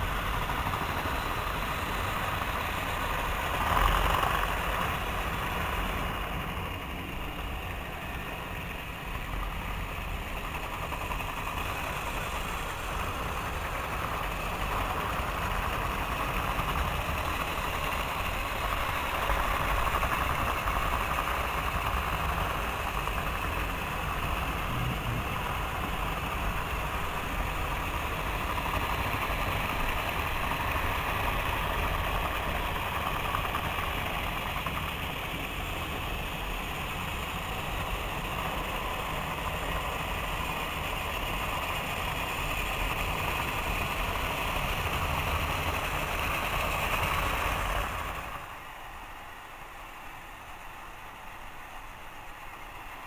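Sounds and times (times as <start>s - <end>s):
toy trains whirring and rolling: 0.0s - 53.0s.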